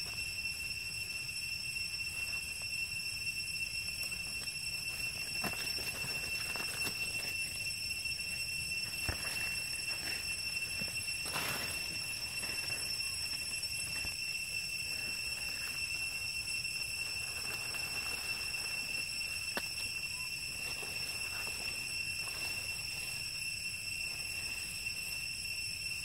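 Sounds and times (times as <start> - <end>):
forest insects droning: 0.0 - 26.0.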